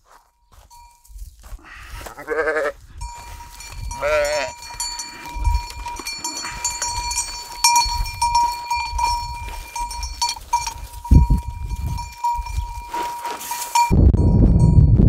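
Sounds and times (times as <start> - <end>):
sheep bell clanking: 0.1 - 1.5, 3.0 - 15.0.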